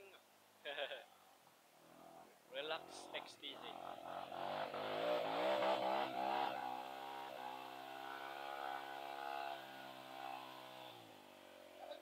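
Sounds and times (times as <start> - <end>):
dirt bike engine revving: 1.8 - 12.0.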